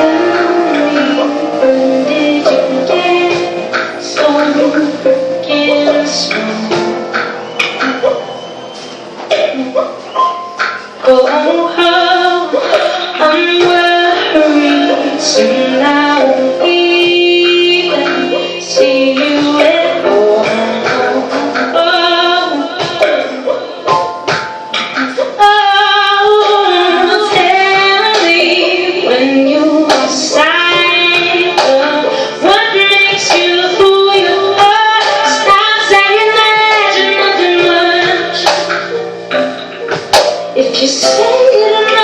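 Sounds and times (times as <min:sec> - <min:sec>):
woman singing: 0:00.0 - 0:08.0, 0:09.3 - 0:24.3, 0:25.0 - 0:39.1, 0:40.5 - 0:42.0
amplified instrumental accompaniment: 0:00.0 - 0:42.0.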